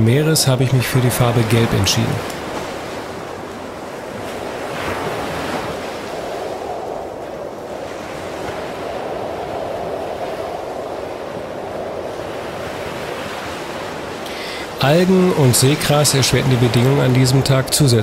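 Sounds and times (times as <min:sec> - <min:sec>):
ocean surf breaking on shore: 0:00.0 - 0:18.0
wind buffeting microphone: 0:00.7 - 0:18.0.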